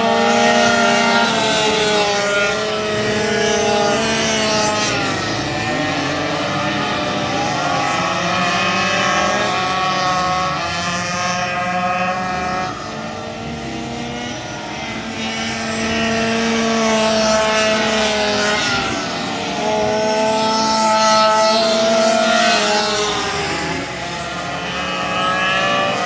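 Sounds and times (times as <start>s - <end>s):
racing minibike engines: 0.0s - 26.0s.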